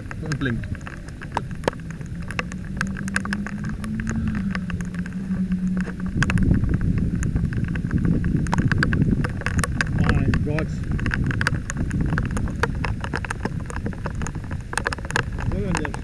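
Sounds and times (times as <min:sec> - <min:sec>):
boat engine running: 0:00.0 - 0:16.0
rain ticking on boat: 0:00.0 - 0:16.0
rush of wind and water: 0:00.0 - 0:16.0.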